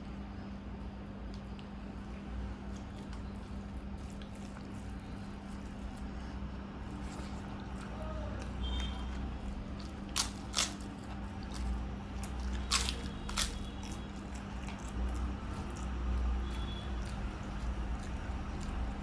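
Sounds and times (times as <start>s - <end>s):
soft chewing: 0.0s - 19.0s
crunching bites of fried food: 1.2s - 19.0s.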